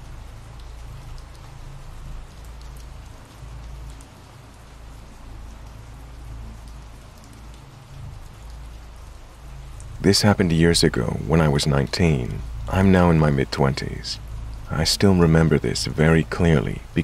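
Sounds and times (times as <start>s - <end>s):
rain drops ticking: 0.0s - 17.0s
steady rain hiss: 0.0s - 17.0s.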